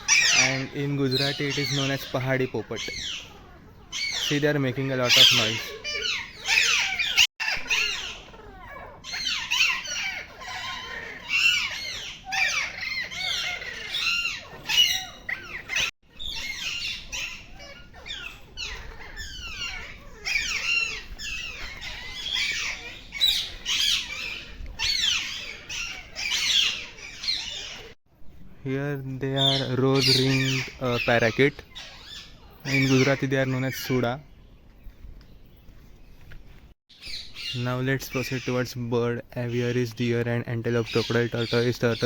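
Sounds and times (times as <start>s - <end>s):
parakeets squawking: 0.0s - 28.0s, 28.9s - 34.3s, 36.9s - 42.0s.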